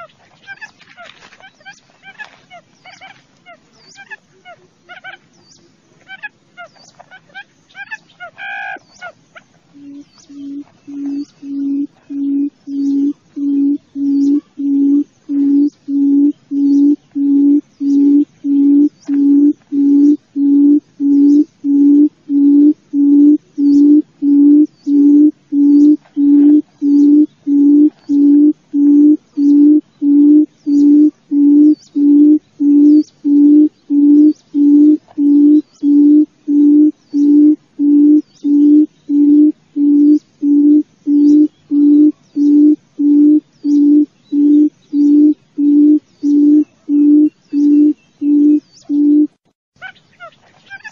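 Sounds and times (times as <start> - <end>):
quail hooting call: 0.0 - 5.2, 6.0 - 50.9.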